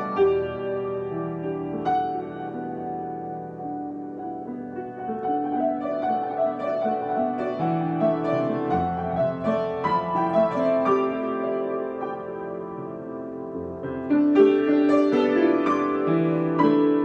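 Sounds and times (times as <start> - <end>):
solo piano improvisation: 0.0 - 17.0.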